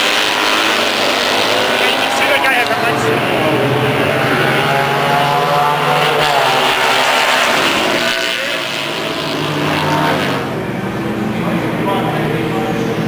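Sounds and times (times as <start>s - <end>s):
motorcycle engines at high revs: 0.0s - 10.8s.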